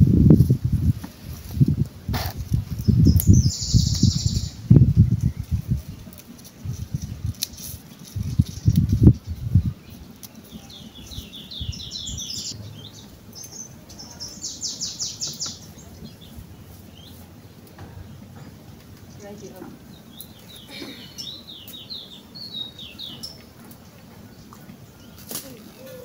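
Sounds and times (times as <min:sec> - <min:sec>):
songbird chirping: 0:02.2 - 0:26.0.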